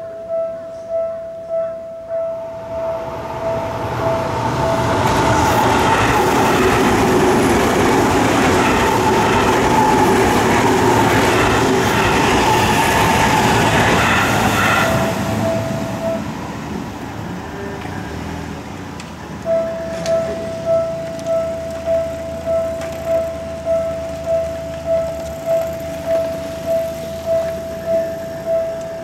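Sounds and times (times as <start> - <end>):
crossing warning bell ringing: 0.0 - 18.2, 19.2 - 29.0
train passing: 0.0 - 29.0.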